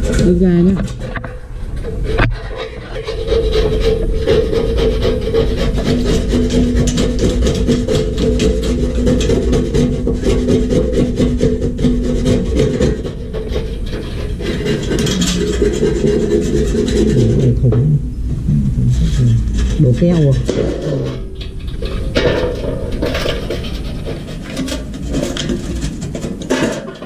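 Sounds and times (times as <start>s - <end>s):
rasping scraping noise: 0.0s - 27.0s.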